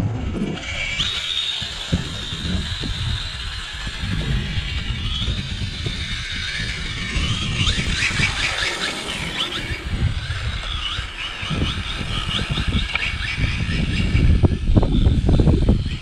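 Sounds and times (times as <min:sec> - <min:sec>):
electric motor whining: 0:00.0 - 0:16.0
wind on microphone: 0:00.0 - 0:16.0.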